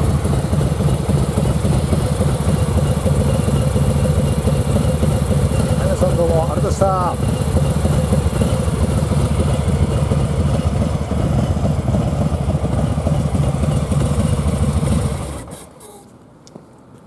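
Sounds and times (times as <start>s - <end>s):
motorcycle engine idling: 0.0s - 15.6s.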